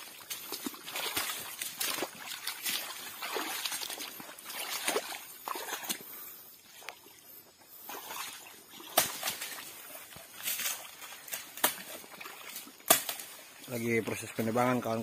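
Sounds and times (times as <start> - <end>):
dry fronds crackling underfoot: 0.0 - 5.9, 6.8 - 15.0
footsteps sloshing through mud: 0.0 - 15.0.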